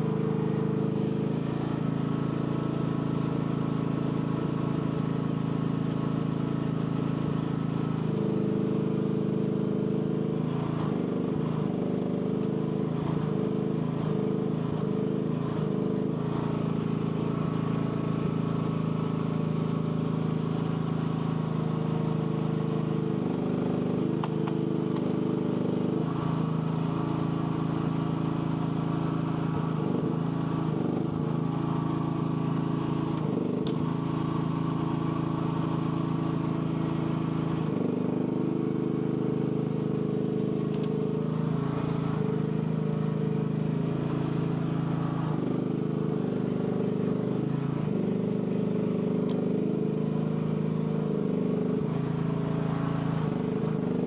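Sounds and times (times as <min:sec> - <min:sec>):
mini excavator engine running: 0:00.0 - 0:54.0.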